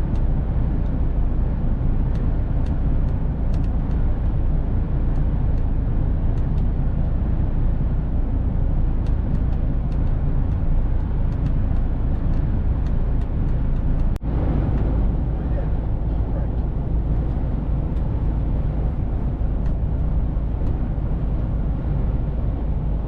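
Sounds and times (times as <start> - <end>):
truck diesel engine and road rumble: 0.0 - 23.0.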